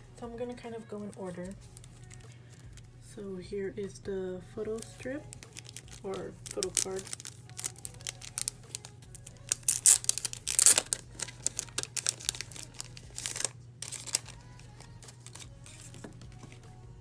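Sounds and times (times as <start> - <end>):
packaging crinkling: 1.0 - 2.8, 4.8 - 16.7.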